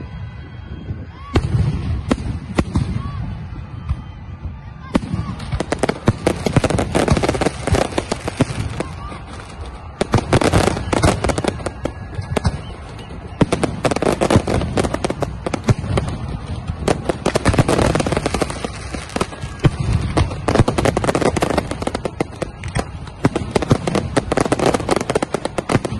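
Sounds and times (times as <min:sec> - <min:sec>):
fireworks bursting and crackling: 0:01.2 - 0:25.9.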